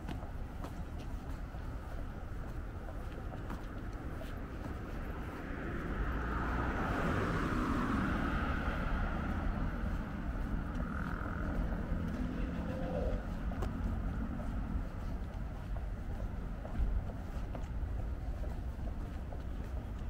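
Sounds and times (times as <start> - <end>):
city road traffic: 0.0 - 20.0
vehicle passing: 2.2 - 20.0.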